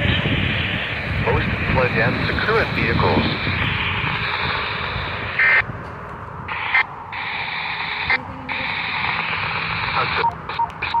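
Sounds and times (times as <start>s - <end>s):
radio static hiss: 0.0s - 5.7s, 6.5s - 11.0s.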